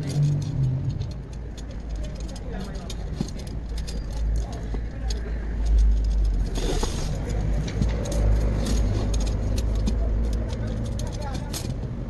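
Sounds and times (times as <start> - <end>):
metal spokes clicking: 0.0 - 12.0
small metal parts rattling: 0.0 - 12.0.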